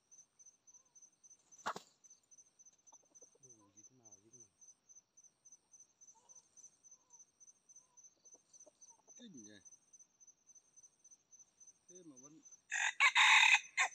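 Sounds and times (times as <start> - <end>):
crickets chirping: 0.0 - 13.9.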